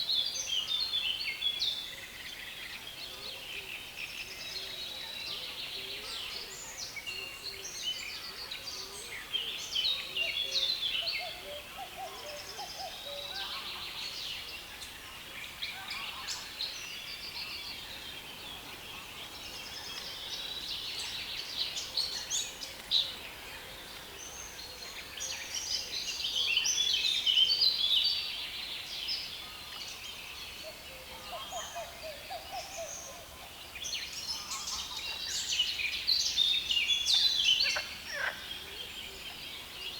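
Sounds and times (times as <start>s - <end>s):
songbirds chattering and twittering: 0.0s - 39.9s.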